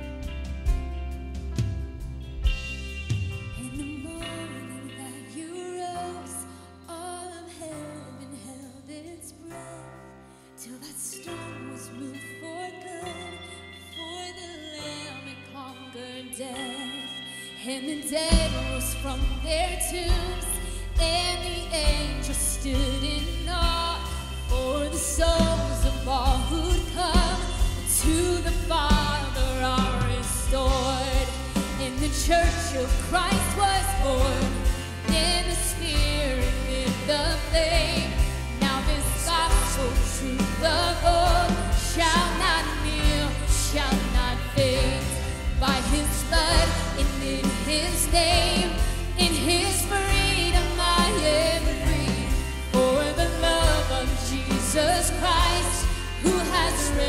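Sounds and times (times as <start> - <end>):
full band with strong bass: 0.0 - 6.9, 16.6 - 57.0
person singing worship song: 10.6 - 57.0.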